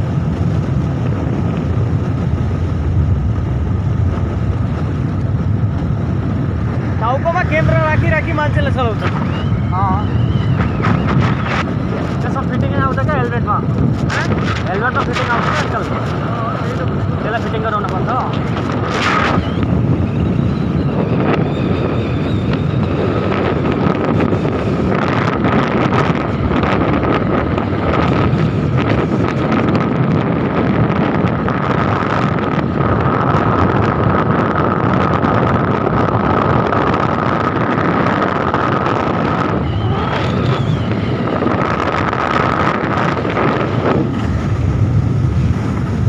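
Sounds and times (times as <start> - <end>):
motorcycle engine and tyres: 0.0 - 46.0
wind buffeting microphone: 0.0 - 46.0.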